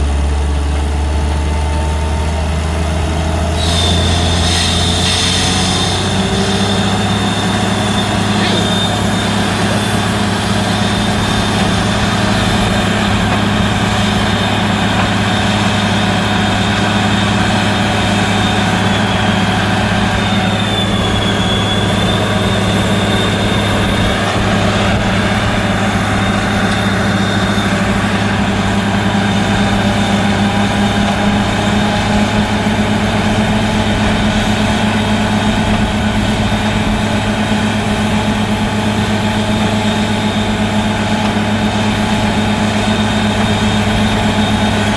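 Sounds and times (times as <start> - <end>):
drilling rig engine hum: 0.0 - 44.9
high whine: 2.7 - 44.9.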